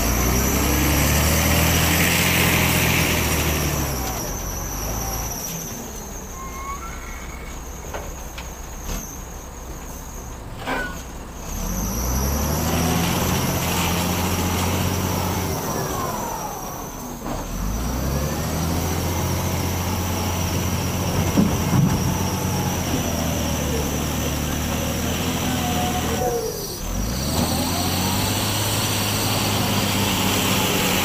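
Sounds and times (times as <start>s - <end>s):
heavy diesel engine revving: 0.0s - 7.8s, 11.4s - 31.0s.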